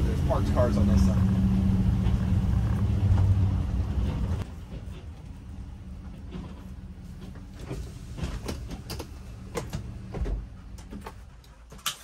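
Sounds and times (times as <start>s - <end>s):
motorhome engine rumble: 0.0s - 11.4s.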